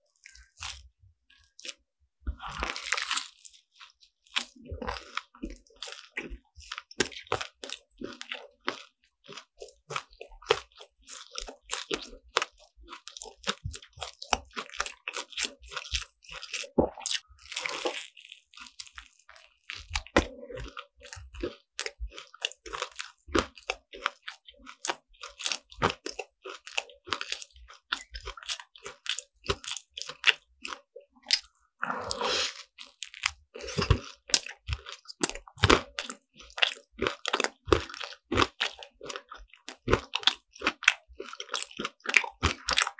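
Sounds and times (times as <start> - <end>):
crunchy biting and chewing: 0.1 - 42.9.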